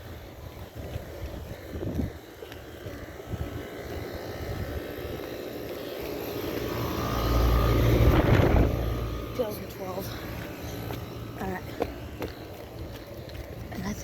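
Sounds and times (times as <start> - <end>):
air conditioner fan rush: 0.0 - 14.0
low compressor hum: 0.0 - 14.0.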